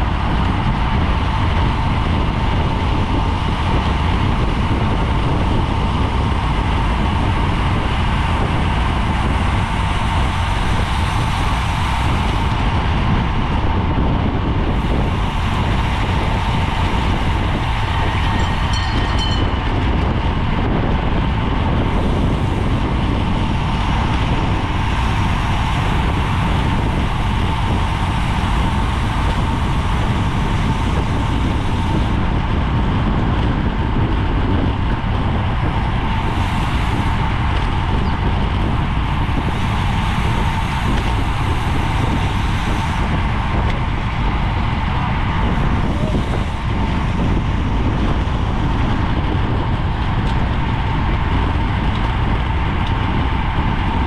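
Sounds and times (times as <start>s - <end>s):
thin steady whine: 0.0s - 54.0s
wind rushing on microphone: 0.0s - 54.0s.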